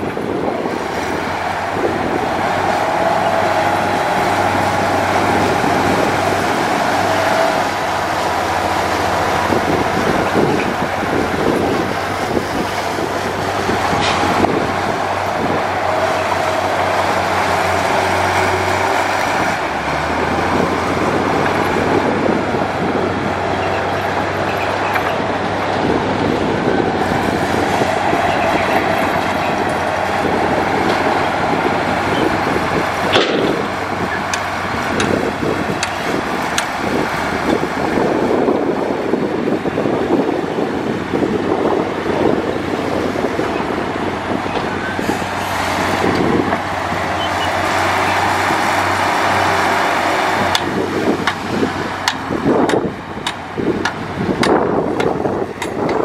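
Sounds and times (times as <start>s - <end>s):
bulldozer diesel engine: 0.0s - 56.0s
steel tracks clanking: 0.0s - 56.0s.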